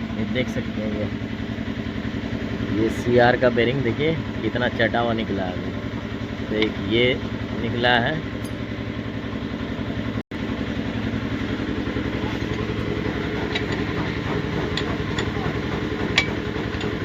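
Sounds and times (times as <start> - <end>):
machinery engine drone: 0.0 - 17.0.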